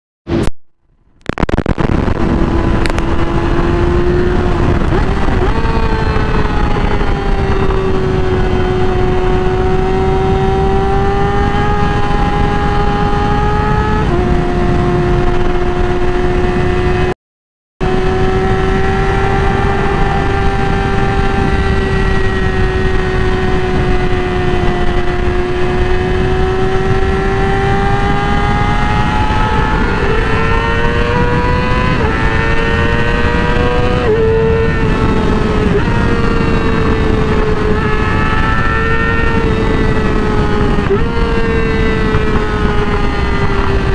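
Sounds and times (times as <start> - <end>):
motorcycle engine at high revs: 1.2 - 17.1, 17.8 - 43.9.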